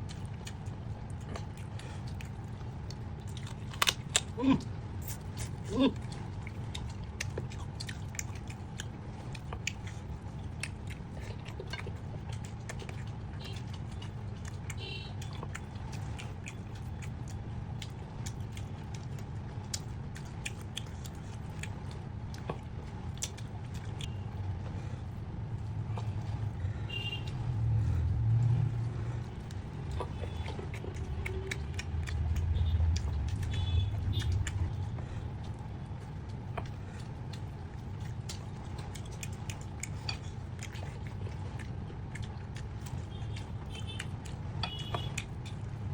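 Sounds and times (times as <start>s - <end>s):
steady low rumble: 0.0s - 45.9s
wet chewing mouth sounds: 0.0s - 45.9s.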